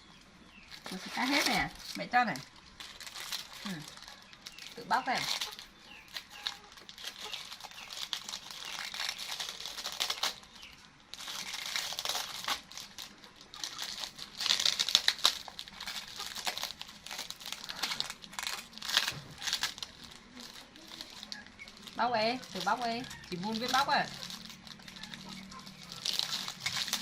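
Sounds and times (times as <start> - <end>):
plastic wrapper crinkling: 0.7 - 27.0.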